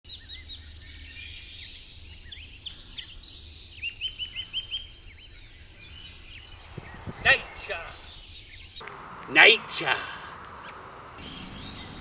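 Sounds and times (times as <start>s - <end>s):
wild birds chirping: 0.1s - 12.0s.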